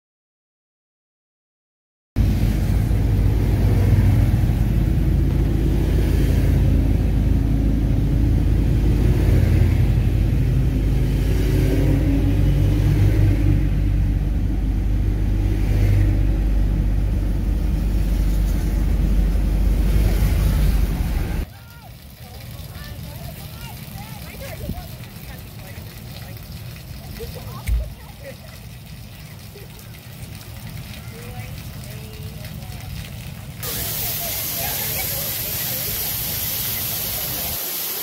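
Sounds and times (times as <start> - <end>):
vehicle road and engine rumble: 2.2 - 38.0.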